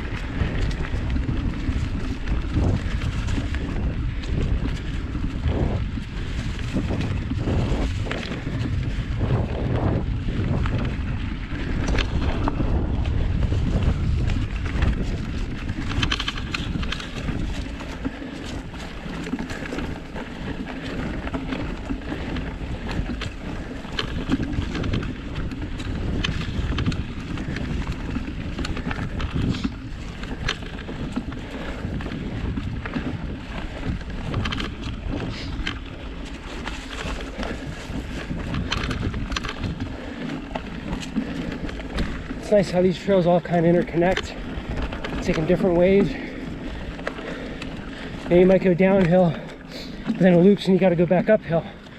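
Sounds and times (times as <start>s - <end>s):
bike clicks and rattles: 0.0s - 51.9s
bike tyres rumbling on rocks: 0.0s - 51.9s
wind buffeting microphone: 0.0s - 51.9s.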